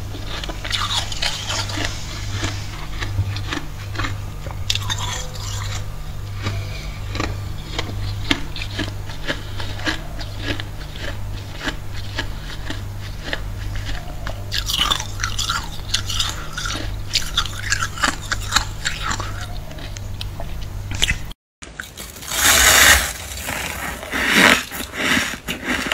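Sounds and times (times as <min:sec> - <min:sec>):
freezer frost crunching: 0:00.0 - 0:25.9
low steady hum: 0:00.0 - 0:25.9.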